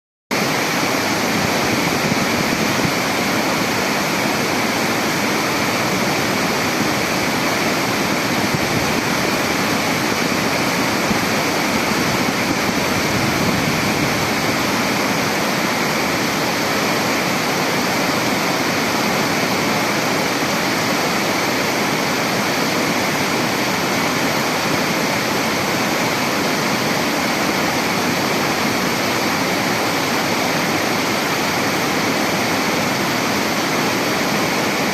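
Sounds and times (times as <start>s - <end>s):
rushing water roar: 0.3s - 34.9s.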